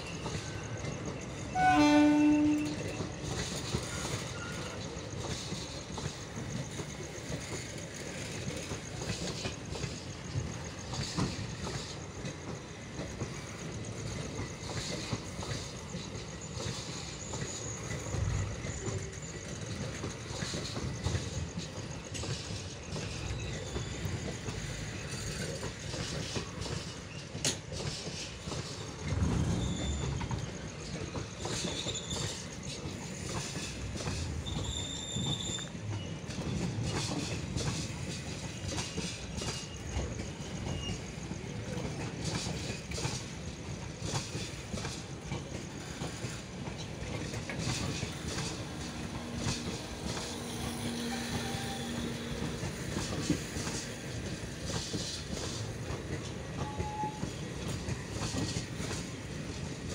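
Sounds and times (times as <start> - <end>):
high wheel squeals: 0.0 - 7.6, 12.7 - 27.4, 28.2 - 42.0, 45.8 - 59.2
train coaches rumbling past: 0.0 - 59.9.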